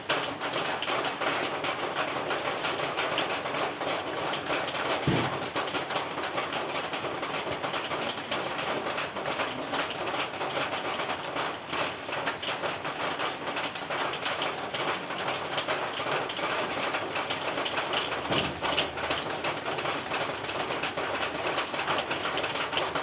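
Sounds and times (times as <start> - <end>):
rain on a roof: 0.0 - 23.0.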